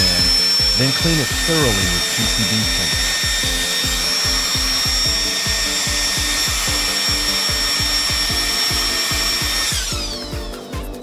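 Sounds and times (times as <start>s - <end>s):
electric fan motor whine: 0.0s - 11.0s
music with thumping beat: 0.0s - 11.0s.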